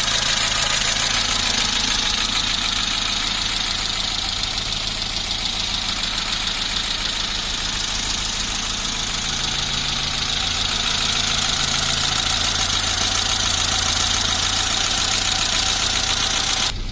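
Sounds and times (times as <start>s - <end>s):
car engine running at low speed: 0.0s - 16.9s.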